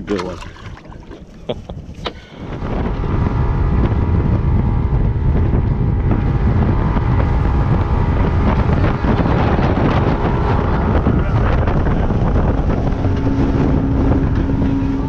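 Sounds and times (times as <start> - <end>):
outboard motor running: 0.0 - 15.0
wind buffeting microphone: 0.0 - 15.0.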